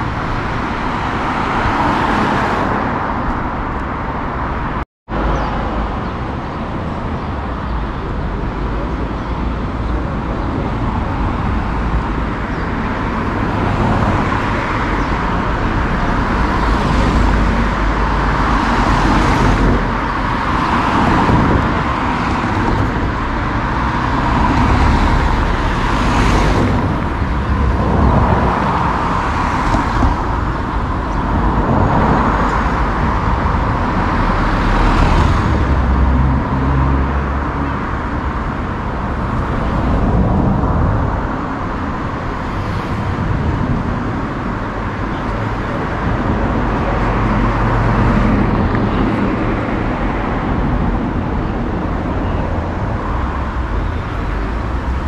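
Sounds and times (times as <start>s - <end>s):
traffic rumble: 0.0s - 55.0s
vehicles passing close: 0.0s - 55.0s.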